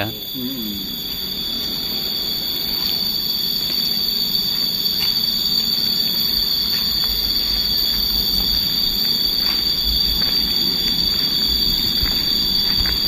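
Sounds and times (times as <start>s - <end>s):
high-pitched two-tone whine: 0.0s - 13.0s.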